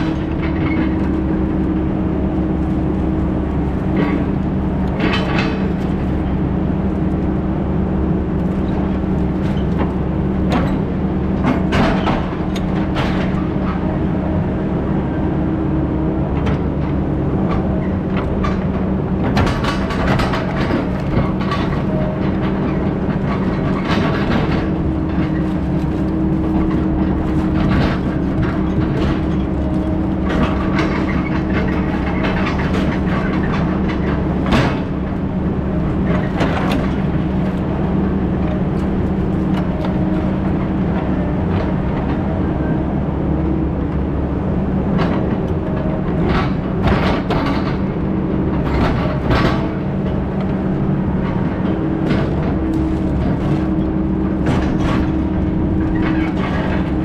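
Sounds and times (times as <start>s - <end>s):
heavy diesel equipment running: 0.0s - 57.0s.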